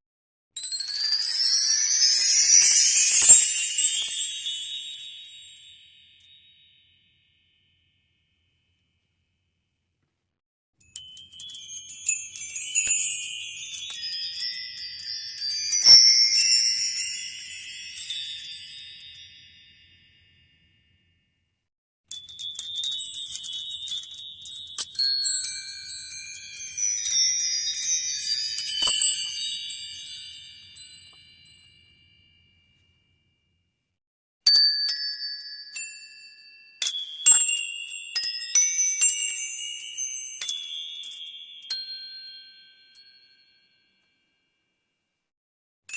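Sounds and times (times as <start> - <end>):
tinkling chime and bell tones: 0.6 - 8.8, 10.8 - 21.5, 22.1 - 33.7, 34.5 - 45.0.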